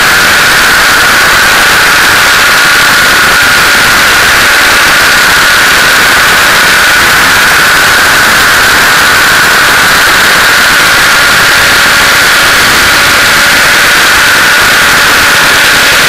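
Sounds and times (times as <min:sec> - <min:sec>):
model helicopter rotor noise: 0:00.0 - 0:16.0
steady whine: 0:00.0 - 0:16.0.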